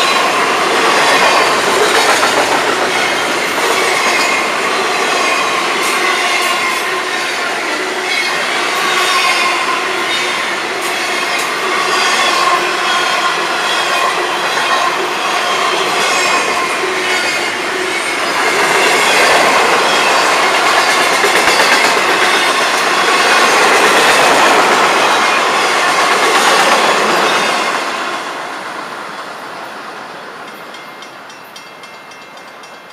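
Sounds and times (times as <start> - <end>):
train wheels clattering on rails: 0.0 - 28.0, 30.4 - 32.9.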